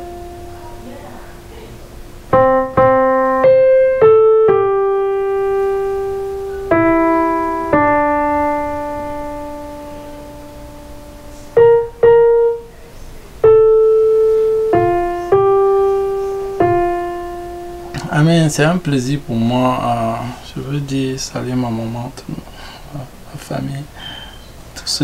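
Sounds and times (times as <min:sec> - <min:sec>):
keyboard piano melody: 0:00.0 - 0:22.1.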